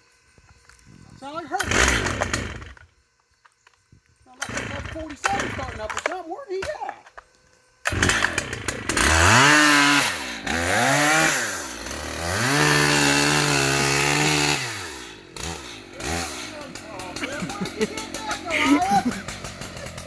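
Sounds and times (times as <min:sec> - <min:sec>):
chainsaw engine revving: 0:01.4 - 0:02.9, 0:04.3 - 0:07.0, 0:07.8 - 0:20.0.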